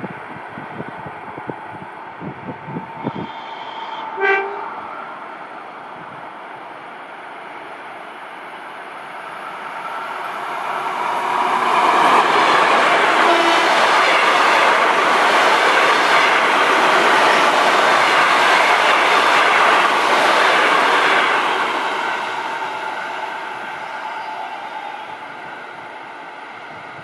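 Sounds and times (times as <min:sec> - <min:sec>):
train wheels on rails: 0:00.0 - 0:27.0.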